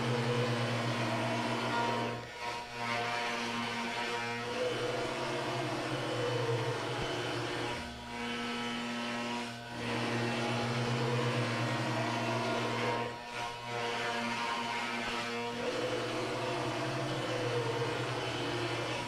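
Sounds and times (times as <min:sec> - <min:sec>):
router spindle cutting whine: 0:00.0 - 0:19.0.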